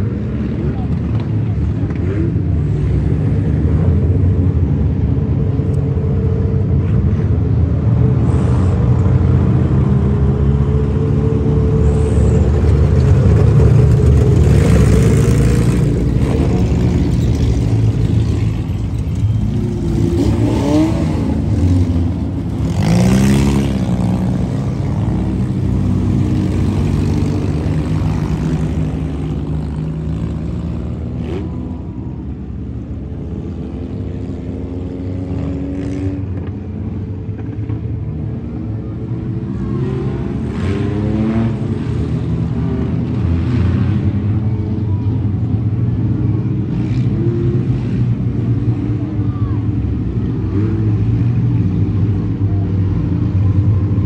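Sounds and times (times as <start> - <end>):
cars passing close: 0.0 - 54.0
race car engines running hard: 0.0 - 54.0.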